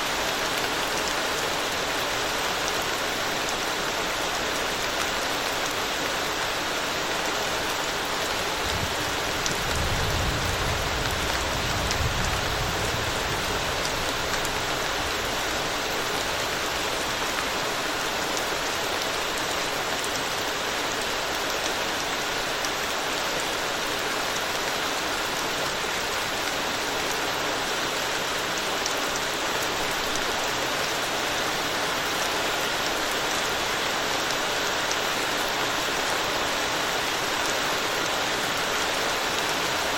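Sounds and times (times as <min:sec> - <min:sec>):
rain falling on a road: 0:00.0 - 0:39.9.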